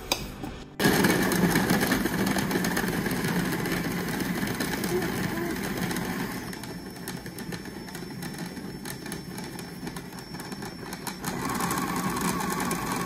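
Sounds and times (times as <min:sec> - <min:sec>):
food processor motor running: 0:00.8 - 0:13.0.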